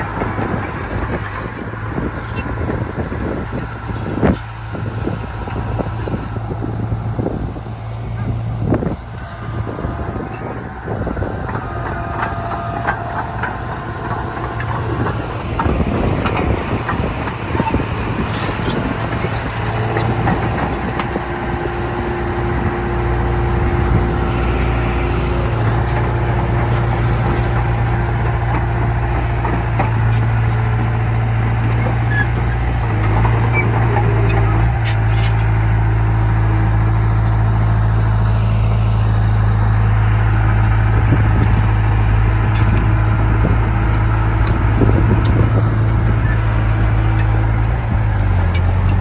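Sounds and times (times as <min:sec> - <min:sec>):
diesel machinery engine running: 0:00.0 - 0:49.0.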